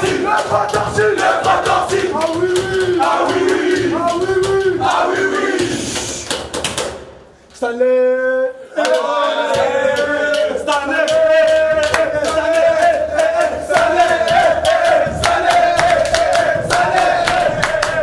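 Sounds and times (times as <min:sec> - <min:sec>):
young men chanting in unison: 0:00.0 - 0:05.9, 0:08.7 - 0:18.0
rhythmic hand clapping: 0:00.0 - 0:07.3, 0:08.8 - 0:18.0.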